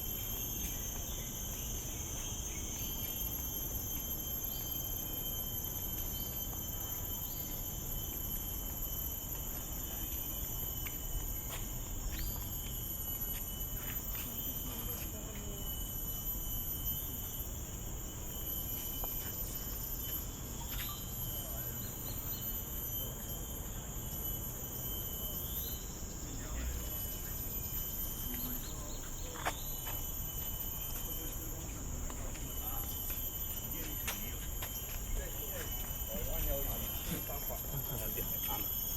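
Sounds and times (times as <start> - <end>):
insect chorus droning: 0.0 - 38.9.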